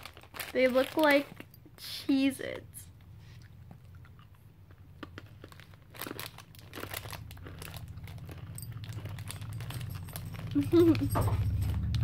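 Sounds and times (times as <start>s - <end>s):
cracker crunching: 0.0s - 1.6s, 3.4s - 12.0s
low steady hum: 0.0s - 12.0s.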